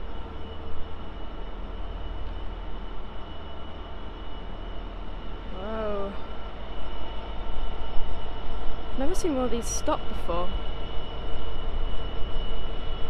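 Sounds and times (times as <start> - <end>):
diesel locomotive idling: 0.0 - 12.9
faint constant whine: 0.0 - 13.0.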